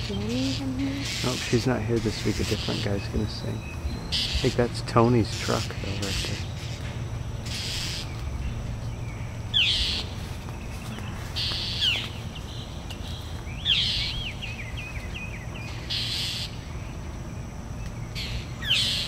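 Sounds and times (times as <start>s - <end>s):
birds harsh scolding calls: 0.0s - 19.0s.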